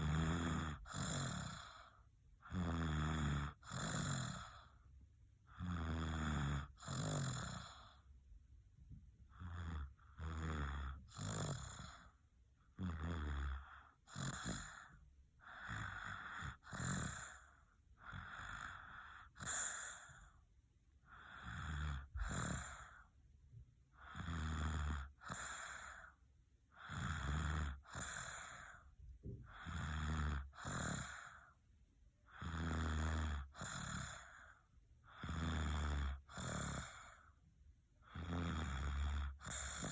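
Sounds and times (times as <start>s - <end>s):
baby snuffling and snoring: 0.0s - 4.8s, 5.5s - 8.1s, 9.4s - 20.4s, 21.1s - 23.1s, 24.0s - 31.6s, 32.3s - 37.4s, 38.0s - 39.9s.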